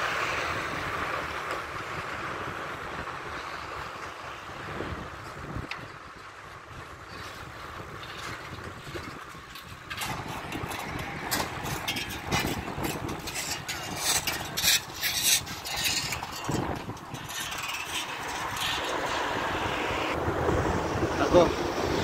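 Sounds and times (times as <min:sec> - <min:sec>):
wind and road noise: 0:00.0 - 0:22.0
wind buffeting microphone: 0:00.0 - 0:22.0.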